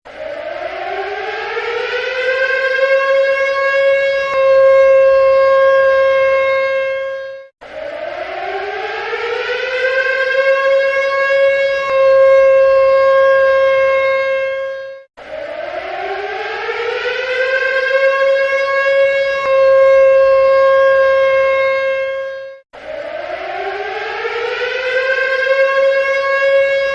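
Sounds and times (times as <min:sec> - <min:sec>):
warning siren winding up: 0:00.1 - 0:26.9.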